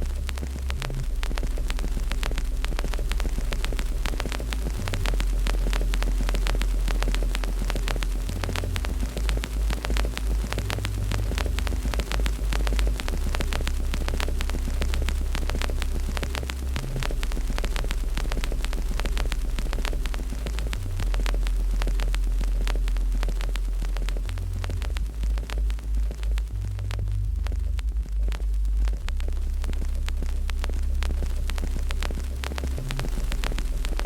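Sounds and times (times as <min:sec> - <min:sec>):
fire crackling and popping: 0:00.0 - 0:34.0
steady low rumble: 0:00.0 - 0:34.0.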